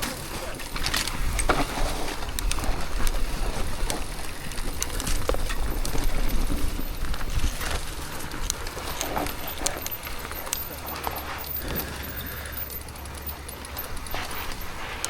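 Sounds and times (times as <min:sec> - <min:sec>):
bike clicks and rattles: 0:00.0 - 0:15.0
bike tyres grinding over dirt: 0:00.0 - 0:15.0
wind rumbling on microphone: 0:00.7 - 0:15.0.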